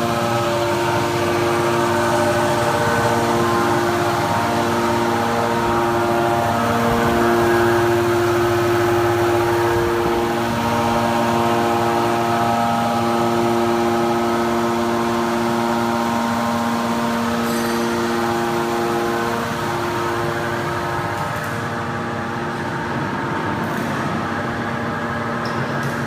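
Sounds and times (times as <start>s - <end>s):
hydraulic baler machine hum: 0.0s - 26.0s.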